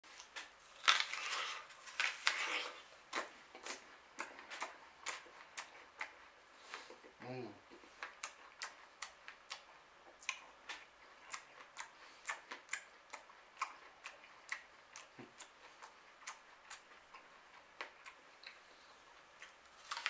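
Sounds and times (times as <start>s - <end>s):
apple crunching while chewed: 0.1s - 7.2s, 7.8s - 20.0s.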